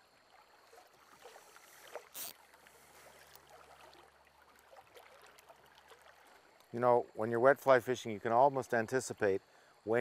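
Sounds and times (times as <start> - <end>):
faint flowing river: 0.0 - 10.0.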